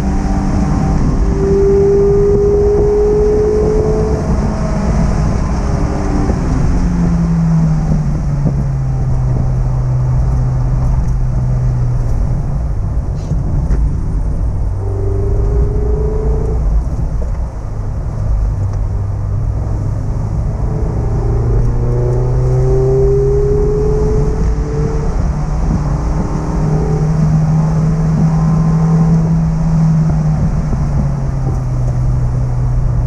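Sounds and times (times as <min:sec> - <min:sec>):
car engine revving: 0:00.0 - 0:33.0
road and wind rumble: 0:00.0 - 0:33.0.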